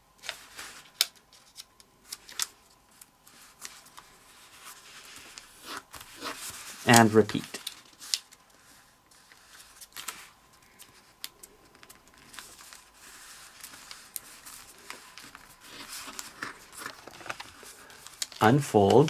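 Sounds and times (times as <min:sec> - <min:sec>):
paper rustling and creasing: 0:00.2 - 0:19.0.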